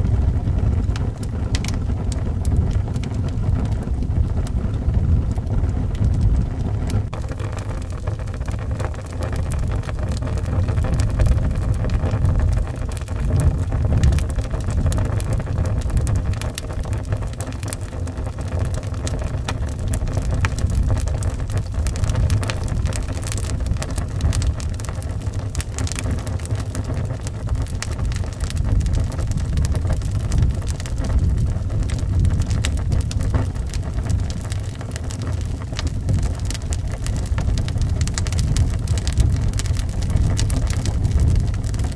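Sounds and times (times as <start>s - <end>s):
howling wind: 0.0s - 41.9s
wood fire crackling: 0.0s - 41.9s.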